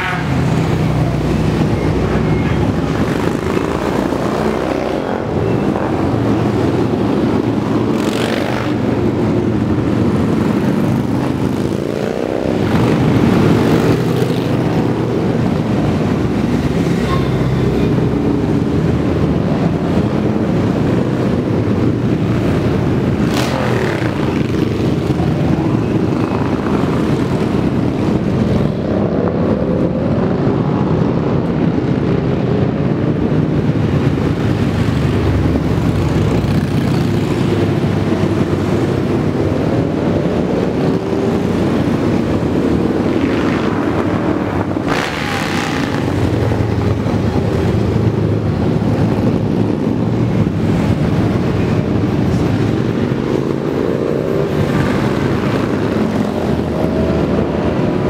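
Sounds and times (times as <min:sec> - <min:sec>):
motorcycles riding past: 0:00.0 - 0:18.8, 0:19.5 - 0:29.3, 0:33.6 - 0:58.0.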